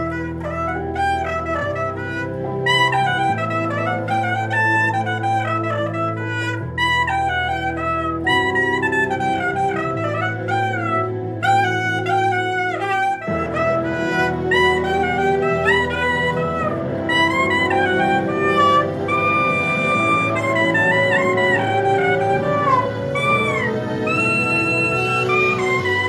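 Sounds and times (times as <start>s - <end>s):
low accompaniment chords: 0.0s - 26.0s
soprano saxophone melody: 0.0s - 26.0s.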